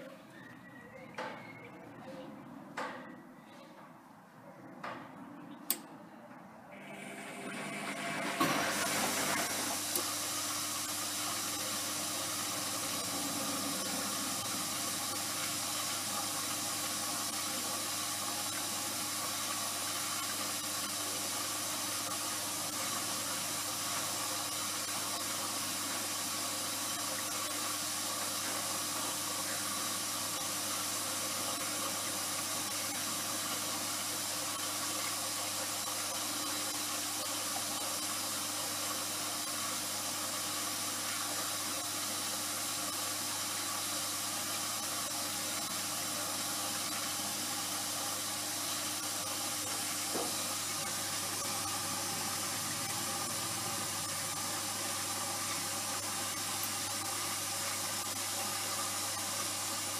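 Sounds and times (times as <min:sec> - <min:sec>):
washing machine hiss: 0:06.8 - 0:59.9.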